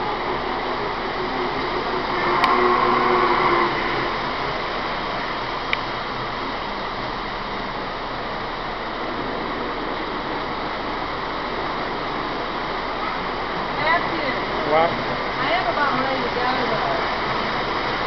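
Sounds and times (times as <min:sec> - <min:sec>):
model trains running on track: 0:00.0 - 0:18.0.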